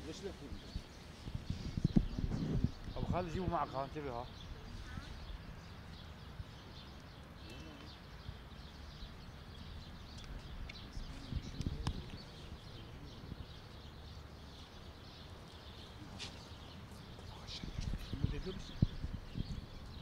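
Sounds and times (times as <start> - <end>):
faint bird chirps: 0.7 - 20.0.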